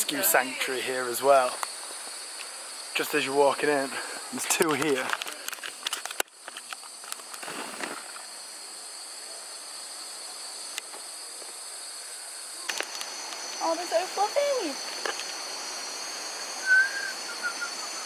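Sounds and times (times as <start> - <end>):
insects buzzing shrilly: 0.0 - 18.0.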